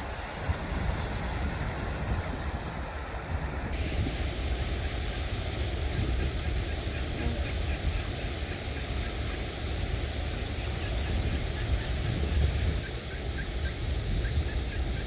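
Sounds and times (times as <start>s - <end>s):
stream running: 0.0s - 15.0s
wind rumble on microphone: 0.0s - 15.0s.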